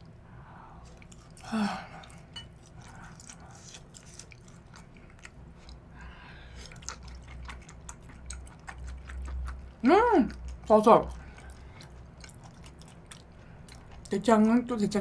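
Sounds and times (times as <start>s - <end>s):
close-miked chewing: 0.8s - 15.0s.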